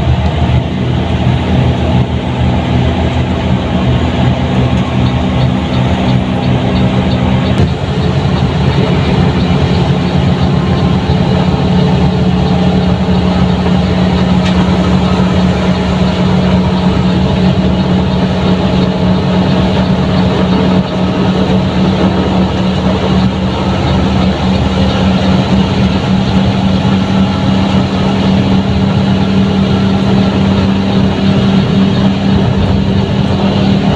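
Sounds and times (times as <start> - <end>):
bus diesel engine running: 0.0 - 33.9
road noise: 0.0 - 33.9.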